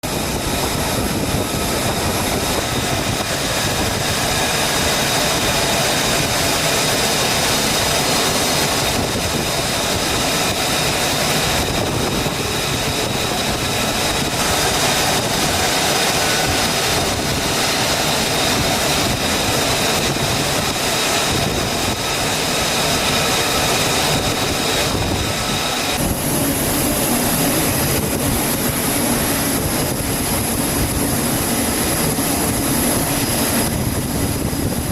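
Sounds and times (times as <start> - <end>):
high jet whine: 0.0 - 34.9
jet engine roaring with whine: 0.0 - 34.9.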